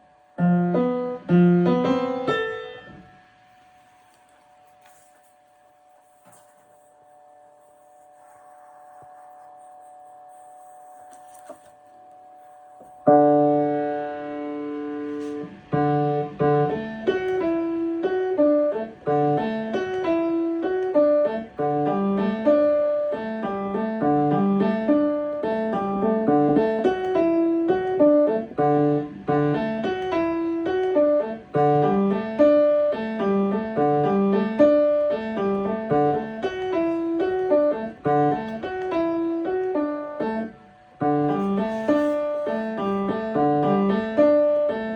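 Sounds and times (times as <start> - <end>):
piano playing: 0.0 - 44.9.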